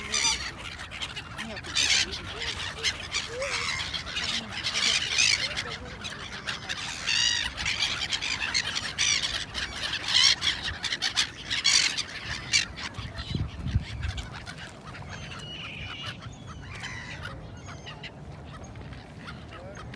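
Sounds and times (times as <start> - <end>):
gulls calling: 0.0 - 19.9.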